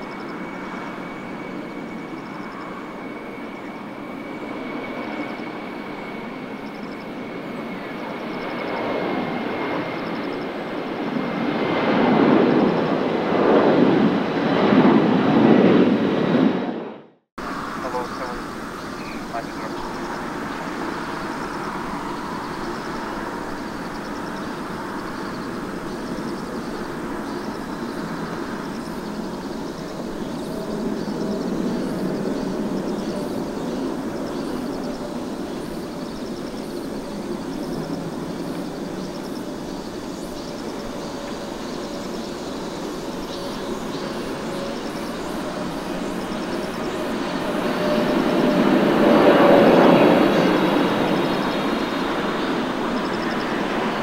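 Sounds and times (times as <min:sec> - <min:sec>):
jet engines roaring with whine: 0:00.0 - 0:54.0.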